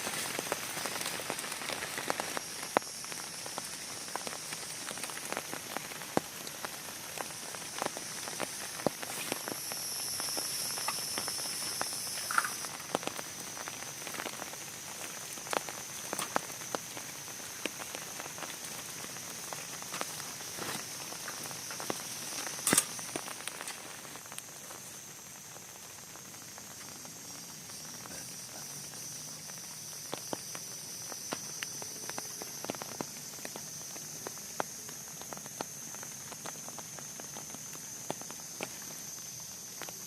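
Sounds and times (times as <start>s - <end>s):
rain hissing: 0.0s - 40.0s
raindrops tapping: 0.0s - 40.0s.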